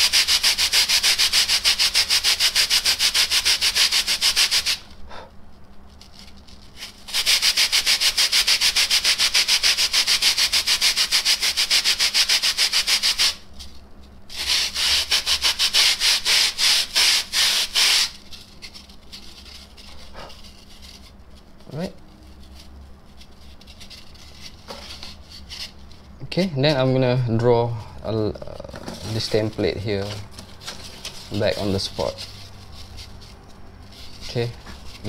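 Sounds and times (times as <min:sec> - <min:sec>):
sandpaper rubbing on foam: 0:00.0 - 0:04.9, 0:06.5 - 0:13.4, 0:14.3 - 0:25.8, 0:28.5 - 0:35.0.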